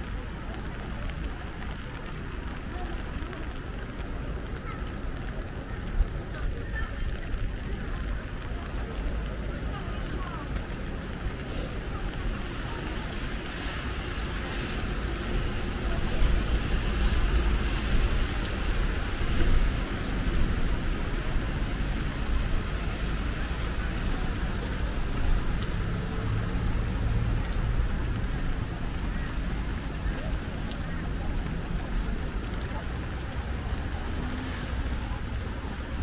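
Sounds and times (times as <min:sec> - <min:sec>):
rain falling on street: 0:00.0 - 0:36.0
road traffic rumble: 0:00.0 - 0:36.0.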